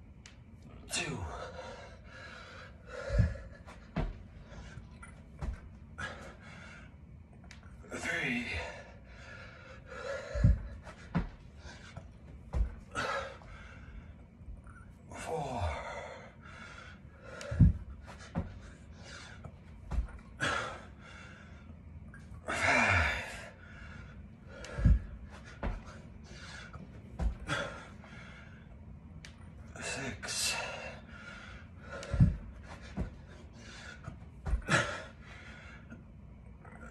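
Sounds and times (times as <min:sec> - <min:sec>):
man breathing hard: 0:00.9 - 0:07.2, 0:07.8 - 0:28.8, 0:29.7 - 0:36.2.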